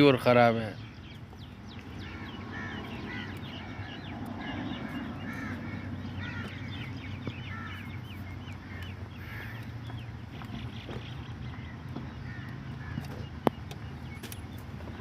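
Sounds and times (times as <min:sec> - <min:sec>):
birds calling: 0:00.0 - 0:15.0
high bird chirps: 0:00.4 - 0:15.0
steady low hum: 0:00.7 - 0:15.0.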